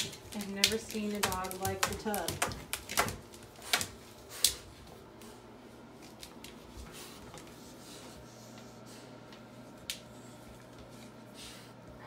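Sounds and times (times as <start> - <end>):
low steady hum: 0.0 - 12.0
puppy scuffling on bathtub: 0.0 - 12.0.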